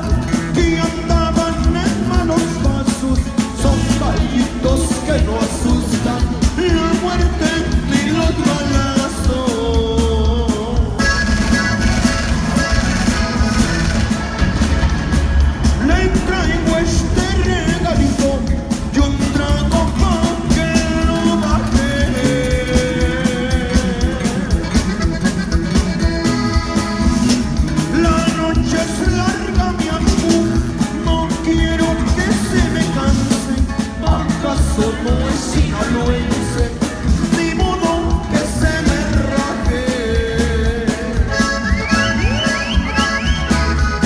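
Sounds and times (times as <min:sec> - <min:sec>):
person singing over a beat: 0:00.0 - 0:11.1, 0:15.7 - 0:25.1, 0:27.8 - 0:44.0.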